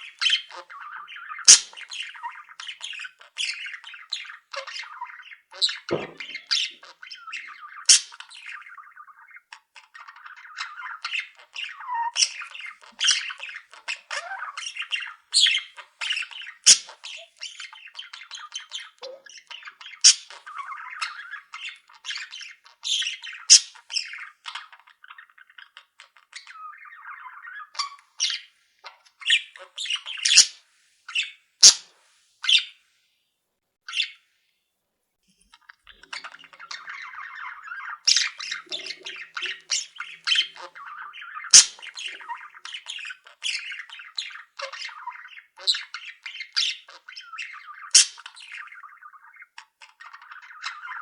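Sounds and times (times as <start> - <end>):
budgerigars chattering and squawking: 0.0 - 31.8, 32.4 - 32.7, 35.6 - 51.0.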